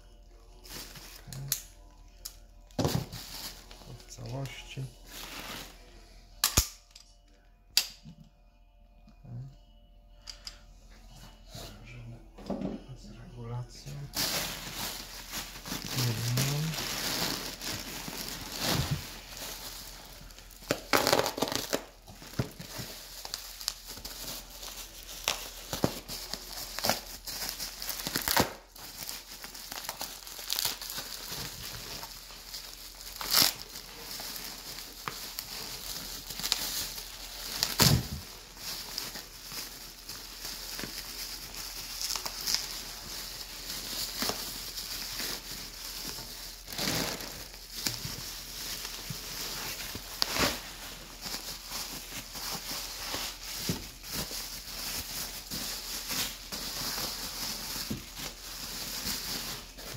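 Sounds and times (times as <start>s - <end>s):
bubble wrap crinkling: 0.0s - 6.6s, 13.7s - 59.9s
bubble wrap cracking: 0.4s - 6.8s, 13.9s - 59.9s.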